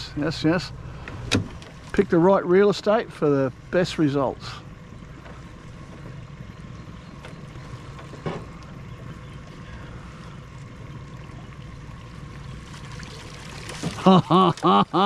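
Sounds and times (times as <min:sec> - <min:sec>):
faint steady hum: 0:00.0 - 0:15.0
water and wind rushing: 0:00.0 - 0:15.0.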